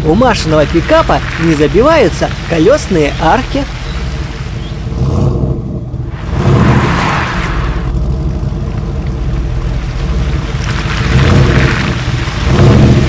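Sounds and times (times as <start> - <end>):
truck engine revving: 0.3 - 13.0.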